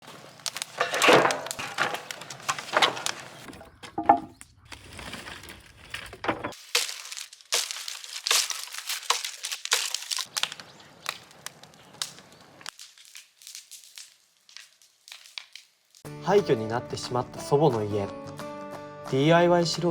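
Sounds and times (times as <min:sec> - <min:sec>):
wood cracking and crunching: 0:00.0 - 0:16.1.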